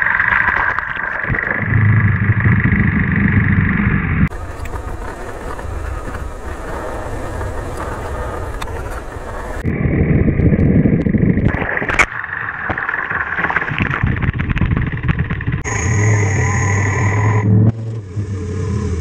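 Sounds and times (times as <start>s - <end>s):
motorcycle engine running: 0.0s - 11.5s, 12.2s - 16.6s
rushing noise: 0.0s - 19.0s.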